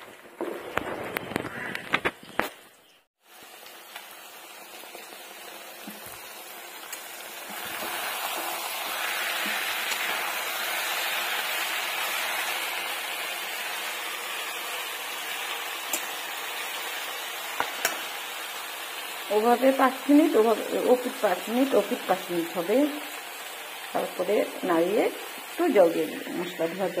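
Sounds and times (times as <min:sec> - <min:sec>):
food sizzling in oil: 0:02.8 - 0:27.0.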